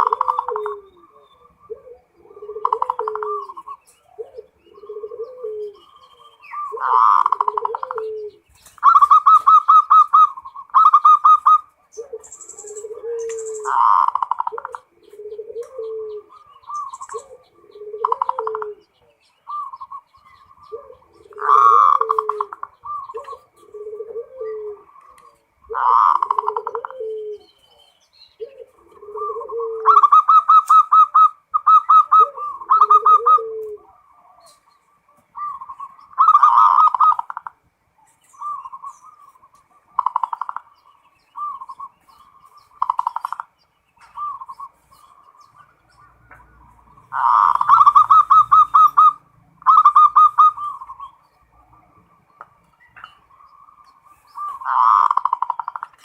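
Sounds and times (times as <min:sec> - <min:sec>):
doves cooing and trilling: 0:00.0 - 0:56.0.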